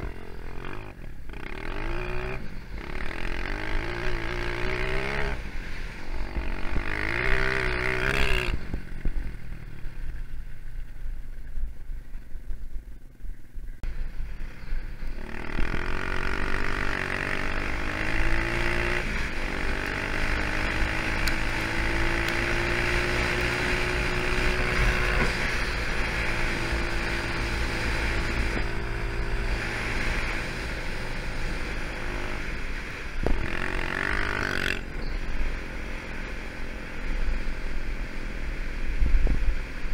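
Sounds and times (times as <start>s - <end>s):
dirt bike engine revving: 0.0s - 8.8s, 15.1s - 38.5s.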